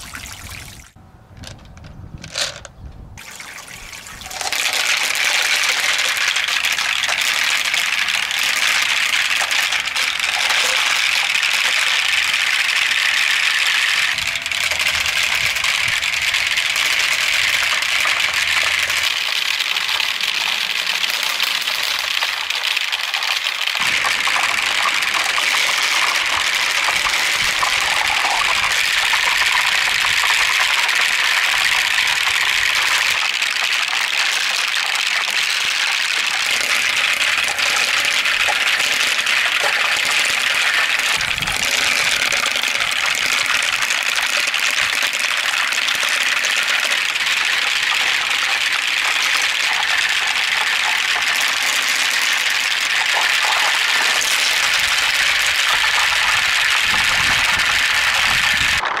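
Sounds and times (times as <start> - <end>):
water pouring and splashing: 0.0 - 1.0, 3.2 - 59.0.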